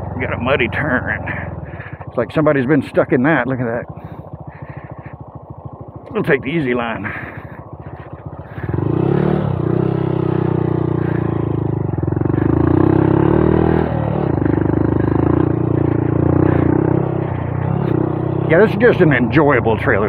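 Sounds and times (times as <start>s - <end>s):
motorcycle engine pulling under throttle: 0.0s - 20.0s.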